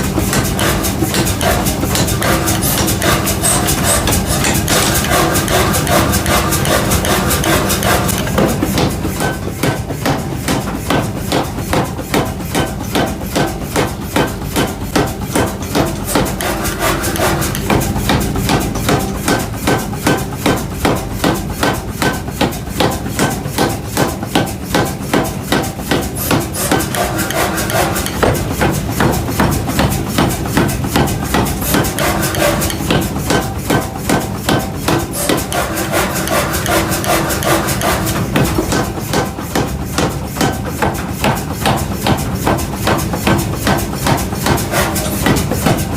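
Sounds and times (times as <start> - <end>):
hammer striking iron: 0.0 - 42.2, 42.9 - 45.9.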